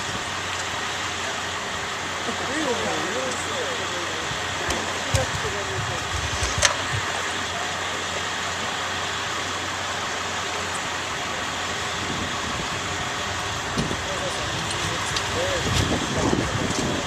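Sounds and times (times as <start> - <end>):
outdoor background noise: 0.0 - 17.0
vehicle engine idling: 0.0 - 17.0.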